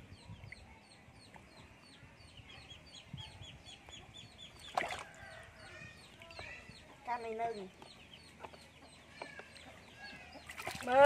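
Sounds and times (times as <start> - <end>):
birds peeping: 0.0 - 11.0.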